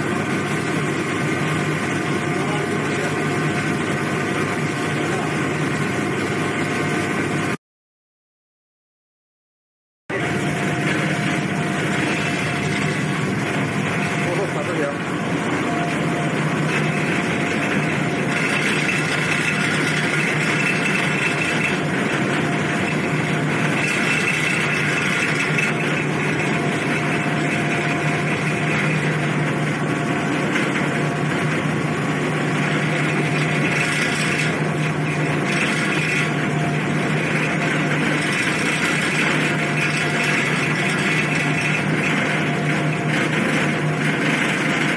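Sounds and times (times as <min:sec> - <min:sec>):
ship engines droning: 0:00.0 - 0:07.6, 0:10.1 - 0:44.9.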